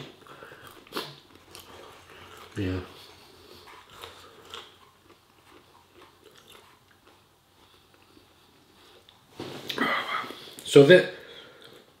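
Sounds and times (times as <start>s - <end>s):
person chewing food: 0.0s - 10.6s, 11.4s - 12.0s.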